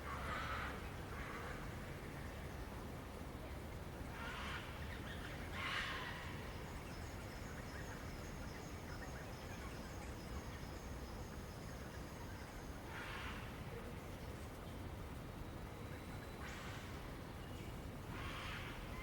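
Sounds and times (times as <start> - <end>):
steady low background noise: 0.0 - 19.0.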